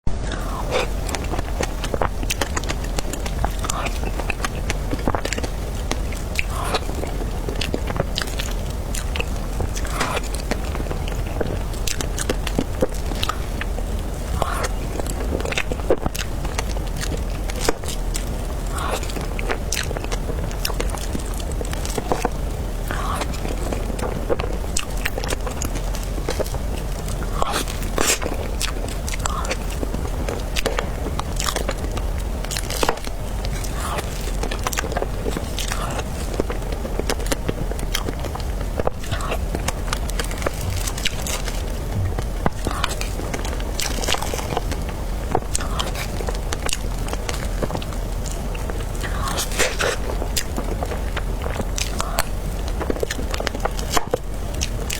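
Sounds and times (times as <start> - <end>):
steady low hum: 0.0 - 54.9
close-miked eating and chewing: 0.1 - 54.9.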